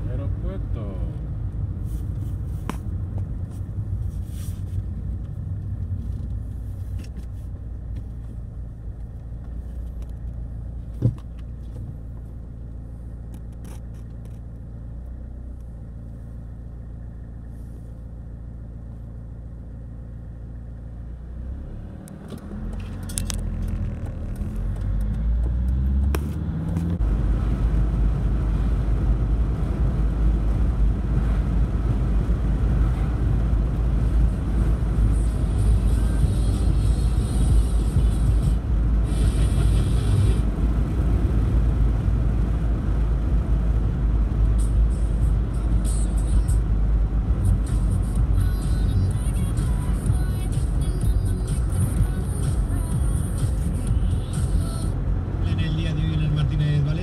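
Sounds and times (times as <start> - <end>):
car engine and road rumble: 0.0 - 57.0
tyre and road noise: 0.0 - 57.0.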